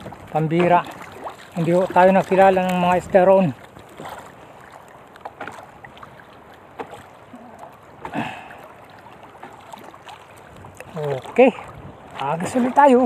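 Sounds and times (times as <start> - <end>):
water lapping against boat hull: 0.0 - 13.0
wind: 0.0 - 13.0.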